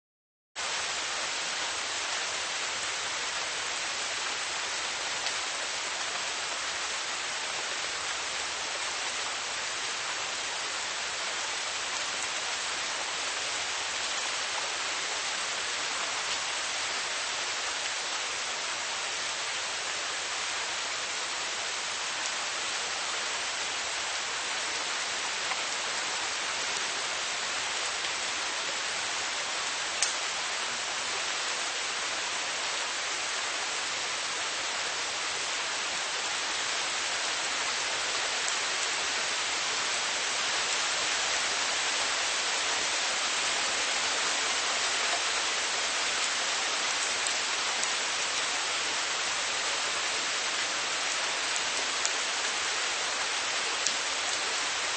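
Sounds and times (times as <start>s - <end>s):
steady rain falling: 0.6s - 54.9s.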